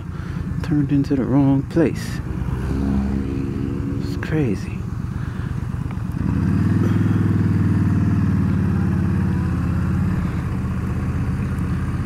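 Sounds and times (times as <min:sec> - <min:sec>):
motorcycle engine revving: 0:01.6 - 0:12.0.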